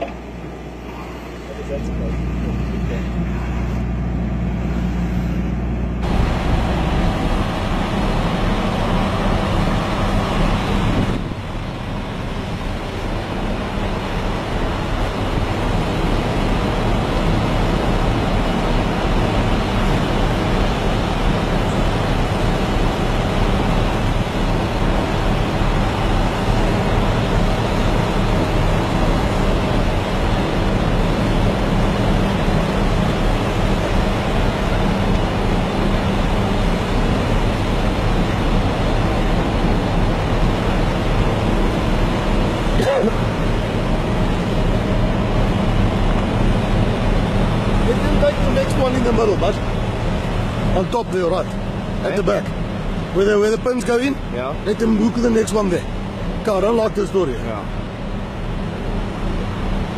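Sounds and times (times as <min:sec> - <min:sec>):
heavy machine engine running: 0:00.0 - 0:59.9
loud rushing noise: 0:00.2 - 0:53.3.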